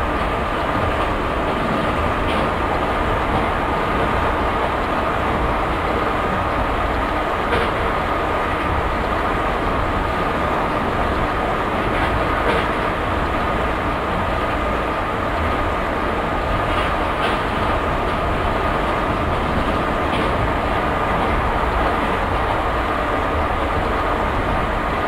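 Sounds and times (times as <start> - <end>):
electric train rumbling on track: 0.0 - 25.0.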